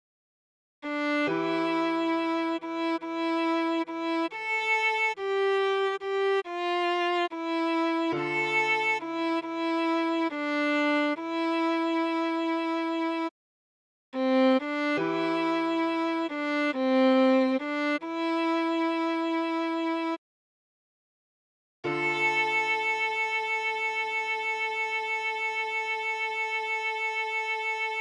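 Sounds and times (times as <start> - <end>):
viola playing slow melody: 0.8 - 13.3, 14.2 - 20.2, 21.9 - 28.0.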